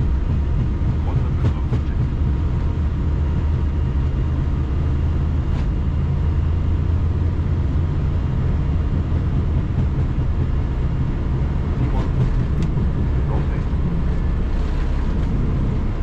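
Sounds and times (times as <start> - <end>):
airflow and engines rumbling in cockpit: 0.0 - 16.0.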